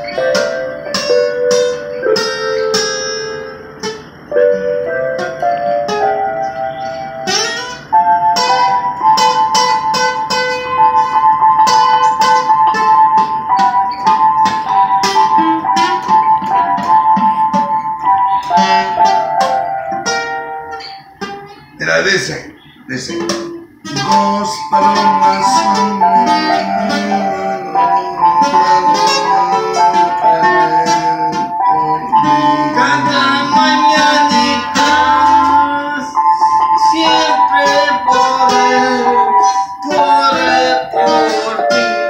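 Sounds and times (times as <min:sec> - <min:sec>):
acoustic guitar strumming: 0:00.0 - 0:42.0
electronic keyboard sustained notes: 0:00.0 - 0:42.0.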